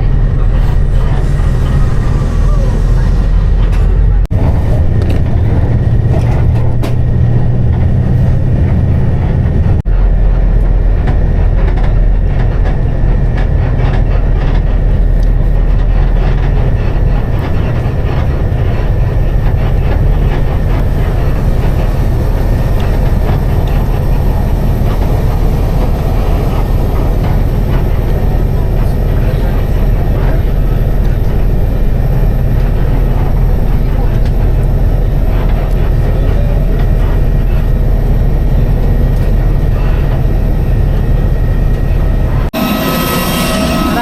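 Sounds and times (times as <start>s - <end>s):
moving vehicle rumble: 0.0s - 44.0s.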